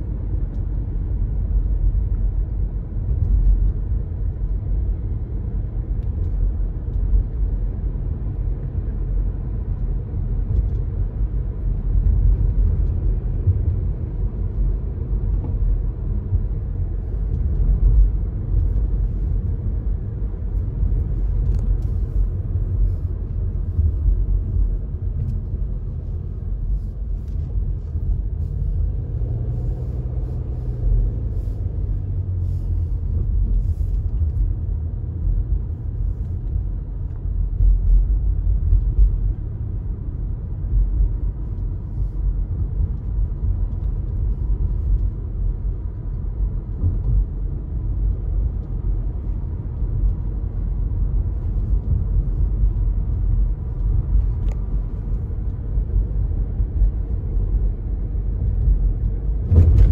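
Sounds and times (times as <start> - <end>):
car road and engine rumble: 0.0 - 59.9
faint engine hum: 0.0 - 59.9.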